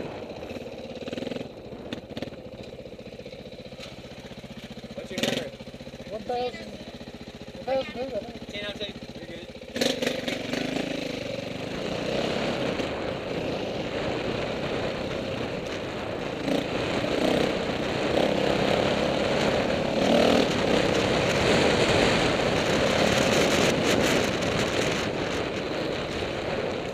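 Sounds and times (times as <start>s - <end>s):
dirt bike engine running: 0.0s - 26.9s.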